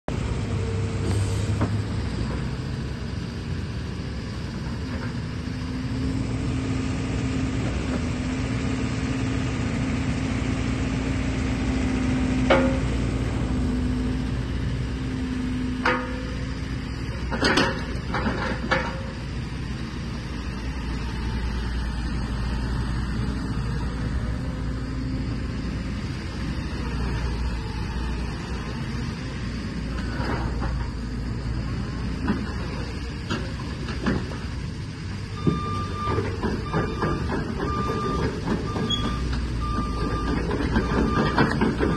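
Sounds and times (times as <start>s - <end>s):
excavator diesel engine droning: 0.1s - 41.9s.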